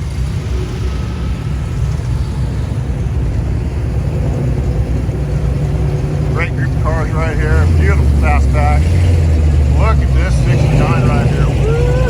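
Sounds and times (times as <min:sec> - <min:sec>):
car engines idling: 0:00.0 - 0:12.0.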